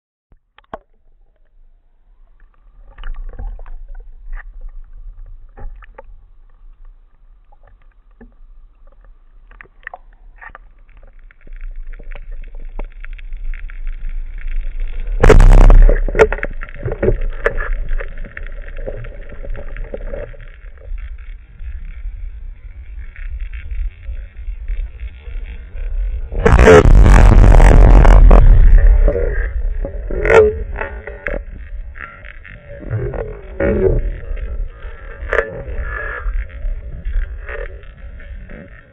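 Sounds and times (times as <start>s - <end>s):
underwater rumble: 0.4s - 38.9s.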